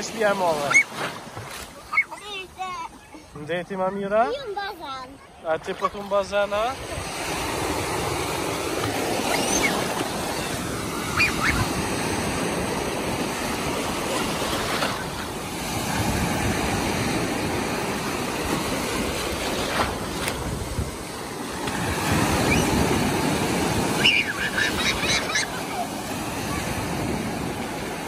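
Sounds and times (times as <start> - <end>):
small waves breaking: 0.0 - 28.0.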